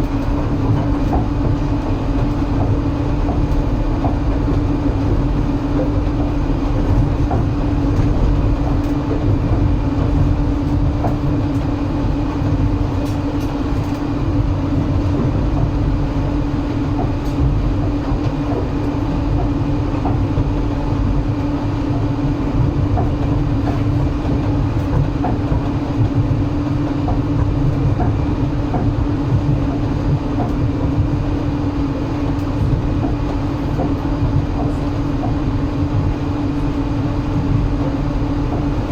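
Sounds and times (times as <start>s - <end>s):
droning hum: 0.0s - 38.9s
train wheels rumbling: 0.0s - 38.9s.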